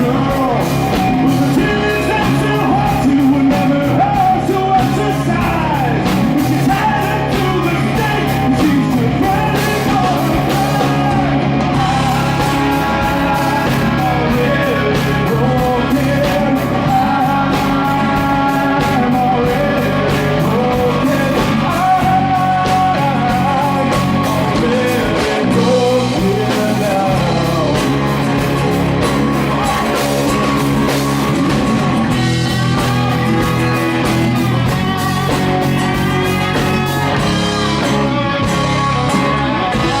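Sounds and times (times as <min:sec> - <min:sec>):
live rock band playing: 0:00.0 - 0:40.0
wavering lead melody: 0:00.0 - 0:40.0.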